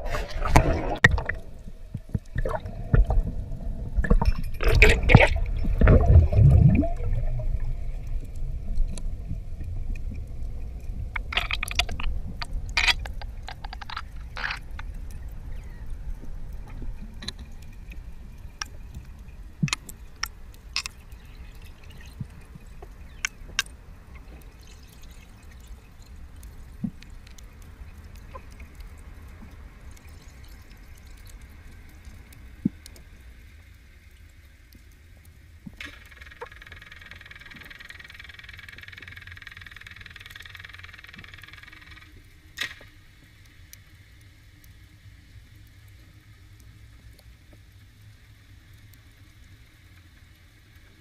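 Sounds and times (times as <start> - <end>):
underwater rumble of moving water: 0.0 - 51.0.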